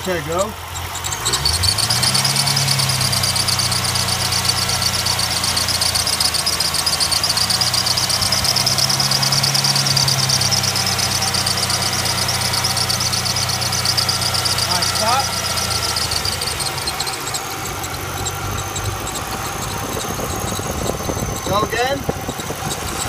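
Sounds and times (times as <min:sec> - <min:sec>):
motor humming: 0:00.4 - 0:23.0.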